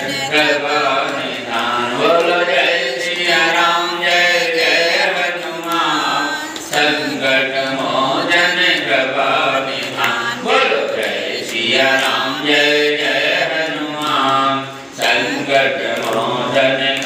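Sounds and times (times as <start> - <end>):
man singing devotional chant: 0.0 - 17.0.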